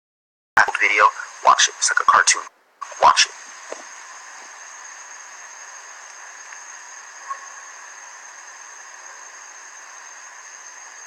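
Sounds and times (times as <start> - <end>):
steady background hiss: 0.6 - 11.0.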